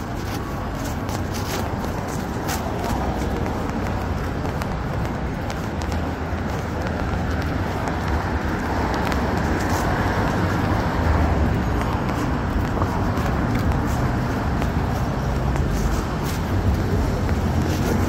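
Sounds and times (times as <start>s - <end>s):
cars driving through intersection: 0.0s - 18.0s.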